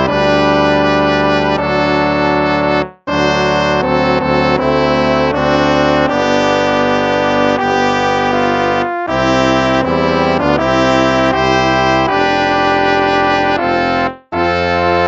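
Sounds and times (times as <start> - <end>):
brass instruments playing hymn: 0.0 - 15.0.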